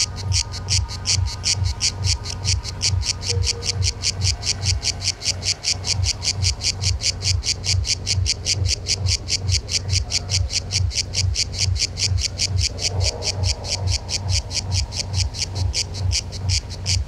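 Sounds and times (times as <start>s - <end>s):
cicada singing: 0.0s - 17.0s.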